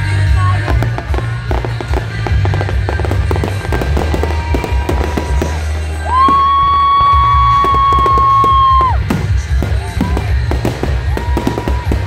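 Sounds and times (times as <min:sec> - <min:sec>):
fireworks bursting and crackling: 0:00.0 - 0:12.0
loud music with heavy bass: 0:00.0 - 0:12.0.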